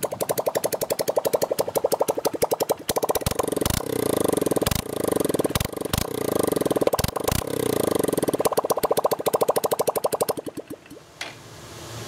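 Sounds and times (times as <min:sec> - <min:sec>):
motorcycle engine revving: 0:00.0 - 0:10.4
motorcycle engine lumpy idle: 0:00.0 - 0:10.8
exhaust cracks: 0:00.0 - 0:11.0.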